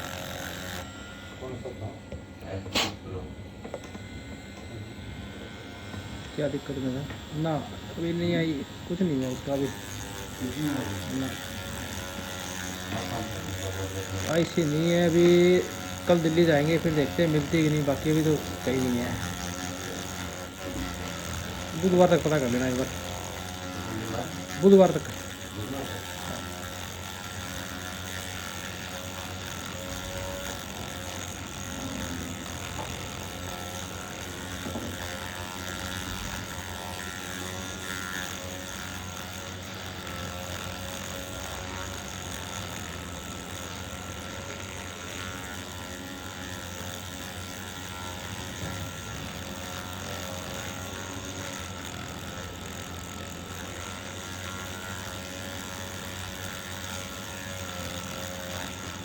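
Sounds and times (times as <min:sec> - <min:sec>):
small electric motor humming: 0:00.0 - 0:59.0.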